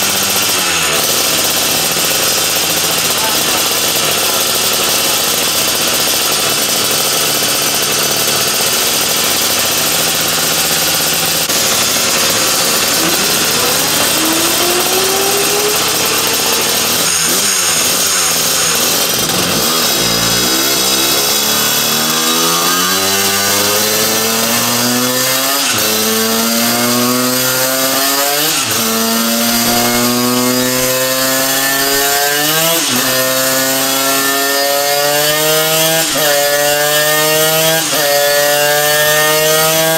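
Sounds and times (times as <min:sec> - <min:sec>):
two-stroke kart engine revving: 0:00.0 - 0:39.9.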